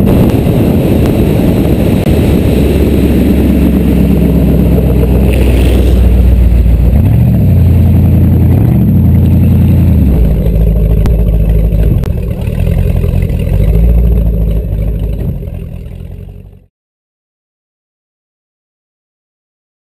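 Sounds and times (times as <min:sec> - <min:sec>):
speedboat engine running: 0:00.0 - 0:16.7.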